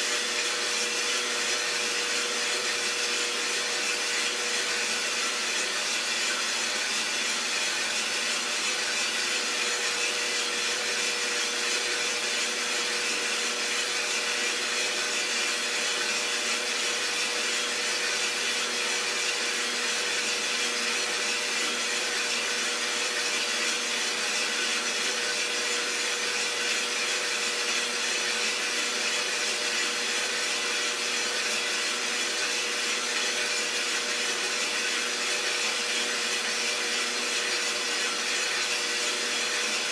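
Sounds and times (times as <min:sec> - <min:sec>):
roaster whirring hiss: 0:00.0 - 0:39.9.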